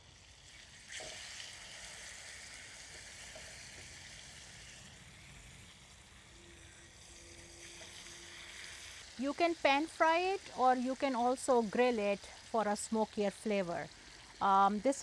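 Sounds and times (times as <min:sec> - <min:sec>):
chicken sizzling in skillet: 0:00.0 - 0:15.0.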